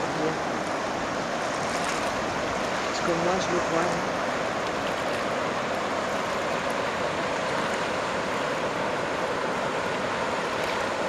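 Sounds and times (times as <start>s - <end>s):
river rushing through rapids: 0.0s - 11.0s.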